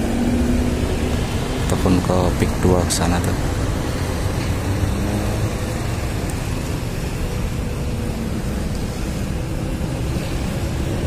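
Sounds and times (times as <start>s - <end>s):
faint engine hum: 0.0s - 11.0s
road traffic rumble: 0.0s - 11.0s.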